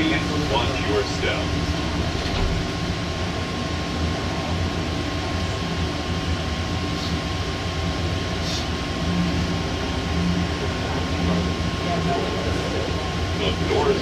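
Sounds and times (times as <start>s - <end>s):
thin steady whine: 0.0s - 14.0s
train running in tunnel: 0.0s - 14.0s.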